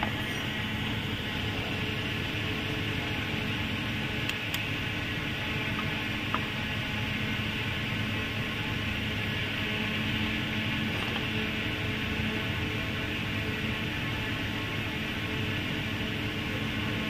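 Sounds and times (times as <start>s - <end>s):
mechanical hum with hiss: 0.0s - 17.0s.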